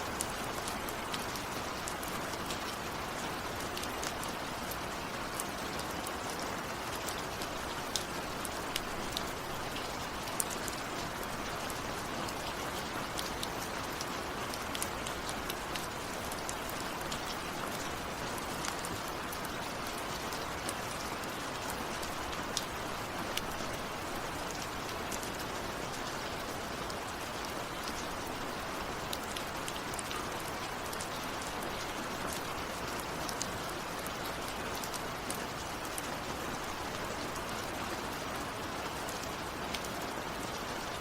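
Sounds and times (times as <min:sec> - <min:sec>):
raindrops ticking close by: 0:00.0 - 0:41.0
steady rain: 0:00.0 - 0:41.0.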